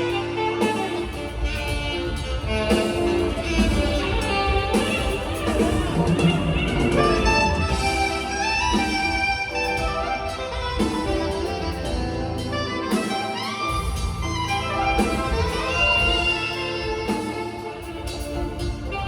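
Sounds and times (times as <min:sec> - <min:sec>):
live band backing: 0:00.0 - 0:19.0
saxophones playing a melody: 0:00.0 - 0:19.0.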